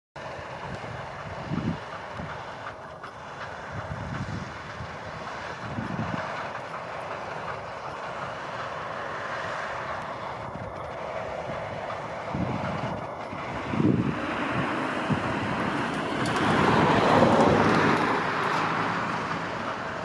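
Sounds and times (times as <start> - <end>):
combine harvester running: 0.2 - 20.0
wind buffeting microphone: 0.2 - 20.0.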